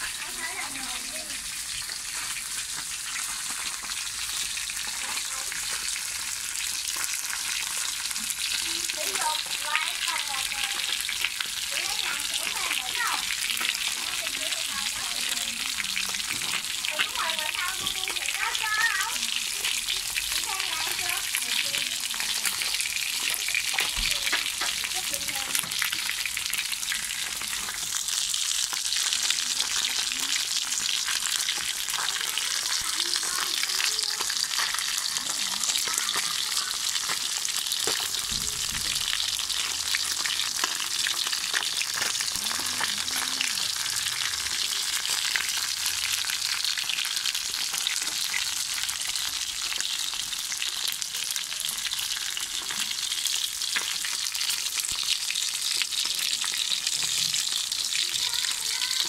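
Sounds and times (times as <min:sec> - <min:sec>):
fish frying in oil: 0:00.0 - 0:59.0.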